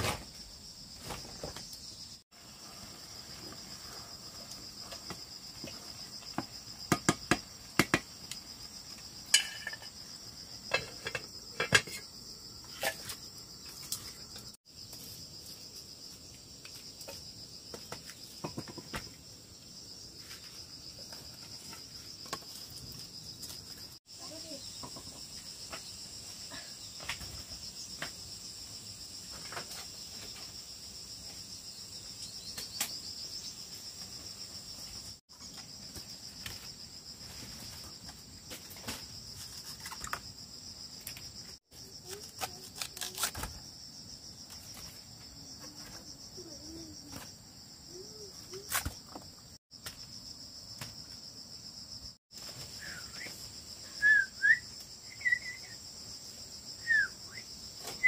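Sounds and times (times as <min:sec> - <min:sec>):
high insect chorus: 0:00.0 - 0:58.0.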